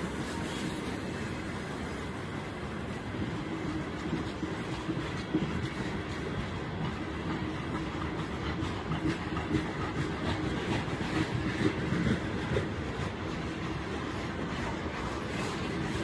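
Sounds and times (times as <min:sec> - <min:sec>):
freight train rumble: 0:00.0 - 0:16.0
train wheels clicking over rail joints: 0:00.0 - 0:16.0.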